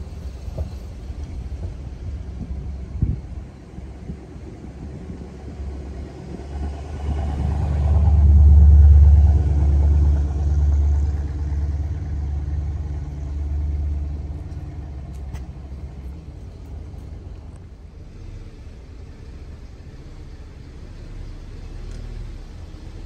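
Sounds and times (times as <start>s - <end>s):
low car rumble: 0.0s - 23.0s.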